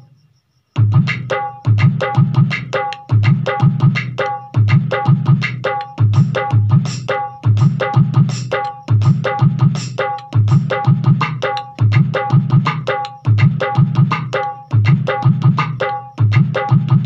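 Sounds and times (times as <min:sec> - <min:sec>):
electronic drum pad rhythm: 0:00.8 - 0:17.0.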